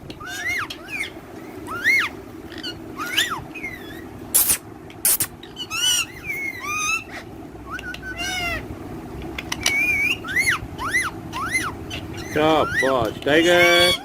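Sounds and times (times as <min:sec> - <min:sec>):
parrots screeching and chattering: 0:00.1 - 0:14.0
parrot whistling: 0:00.2 - 0:08.6, 0:09.4 - 0:12.9.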